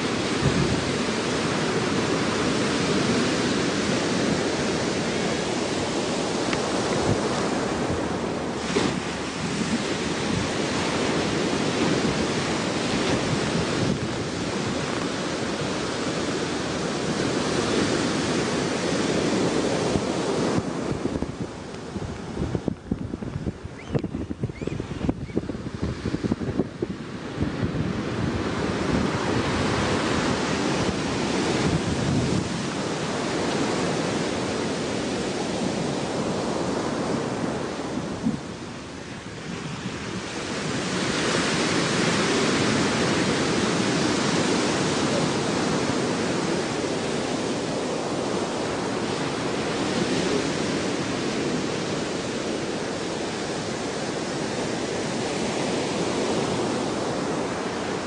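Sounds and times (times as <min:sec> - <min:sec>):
ocean surf washing: 0:00.0 - 0:58.0
wind buffeting microphone: 0:00.0 - 0:58.0.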